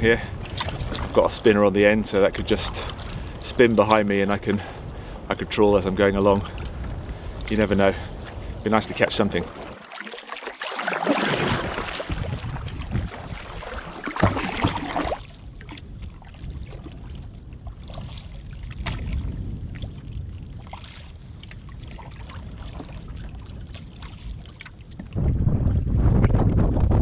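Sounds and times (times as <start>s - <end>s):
wind rumble: 0.0s - 9.8s, 11.3s - 27.0s
water lapping against hull: 0.0s - 25.2s
paddle strokes splashing: 0.4s - 1.2s, 2.4s - 4.7s, 6.5s - 25.1s.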